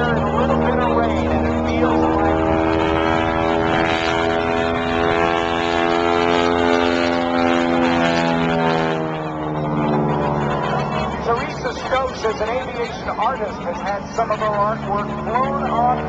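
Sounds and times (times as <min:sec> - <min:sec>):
propeller airplane engine droning: 0:00.0 - 0:16.0.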